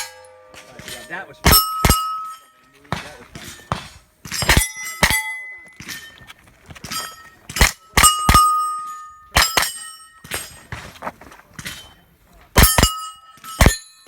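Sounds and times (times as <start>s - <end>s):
steel targets clanging: 0.0s - 14.0s.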